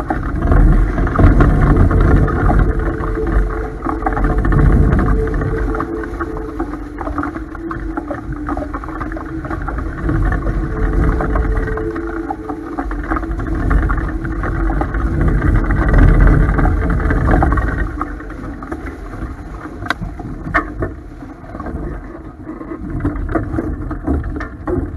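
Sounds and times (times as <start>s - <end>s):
water rushing past hull: 0.0s - 24.9s.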